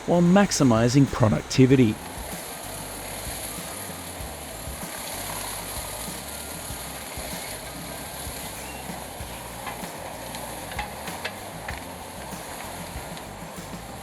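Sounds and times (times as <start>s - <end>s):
wood chipper running: 2.0s - 14.0s.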